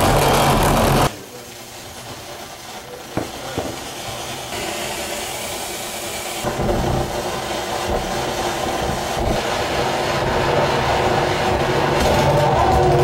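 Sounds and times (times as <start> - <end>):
dense hissing electronic drone: 0.0 - 13.0.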